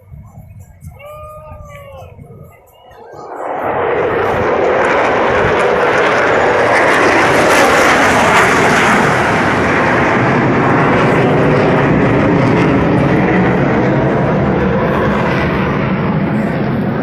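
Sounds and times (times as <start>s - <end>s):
airplane engine roar: 0.0s - 17.0s.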